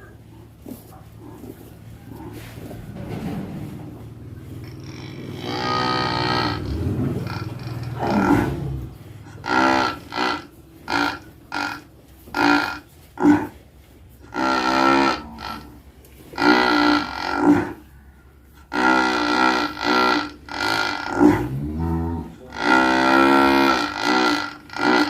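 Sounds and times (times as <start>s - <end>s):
cow snoring: 3.7s - 18.0s, 18.6s - 25.0s.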